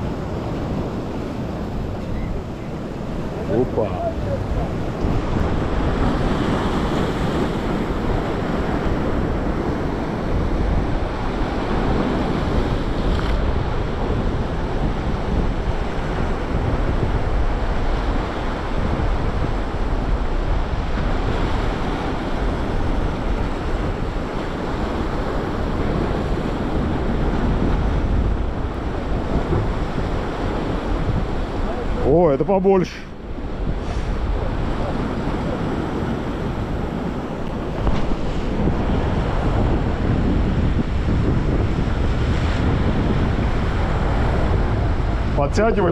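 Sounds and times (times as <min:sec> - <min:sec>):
sea surf washing in: 0:00.0 - 0:45.9
wind buffeting microphone: 0:00.0 - 0:45.9.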